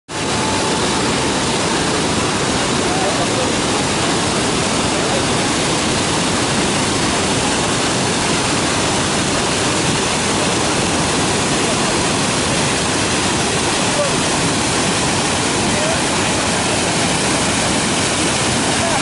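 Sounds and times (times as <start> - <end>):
waterfall rushing: 0.1 - 19.0.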